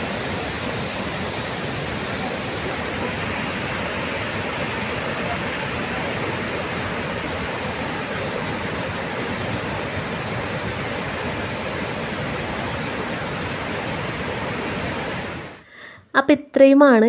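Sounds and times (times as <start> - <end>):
waterfall rushing over rocks: 0.0 - 15.6.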